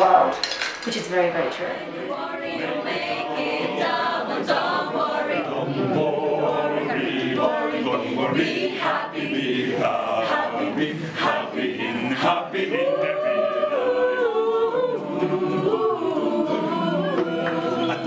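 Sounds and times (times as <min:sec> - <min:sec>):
group singing without instruments: 0:01.5 - 0:18.0.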